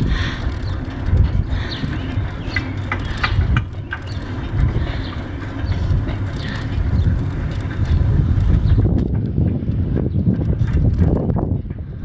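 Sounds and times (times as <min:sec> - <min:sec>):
bike clicks and rattles: 0:00.0 - 0:12.0
wind rumble on microphone: 0:00.0 - 0:12.0.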